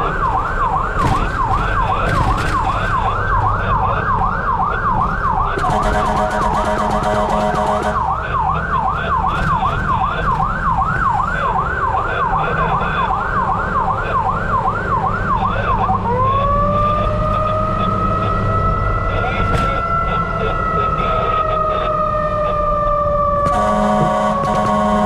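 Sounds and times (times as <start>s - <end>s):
fire truck siren: 0.0s - 25.0s.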